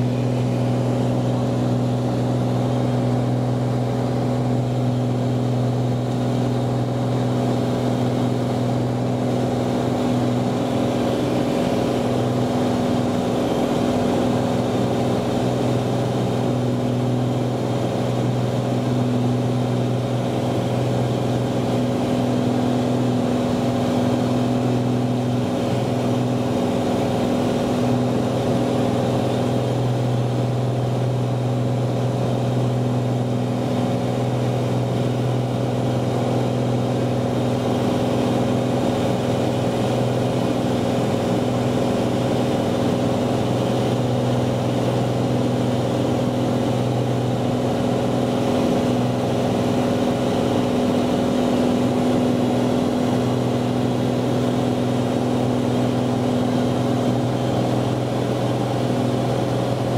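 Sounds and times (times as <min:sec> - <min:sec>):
aircraft engine drone in cabin: 0:00.0 - 0:59.9.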